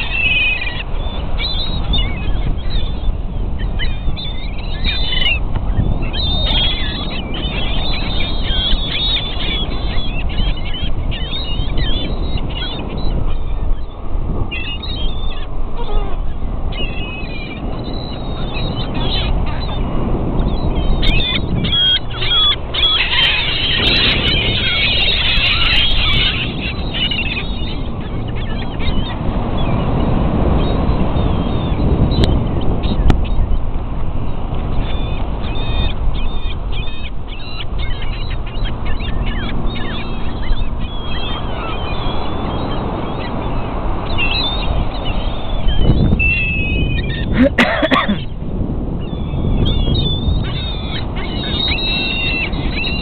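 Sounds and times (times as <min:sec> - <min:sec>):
gulls calling: 0:00.0 - 0:53.0.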